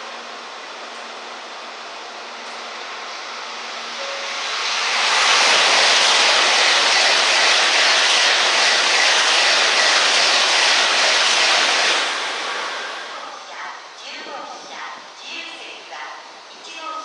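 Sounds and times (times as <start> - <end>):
high-speed train passing: 0.0 - 15.2.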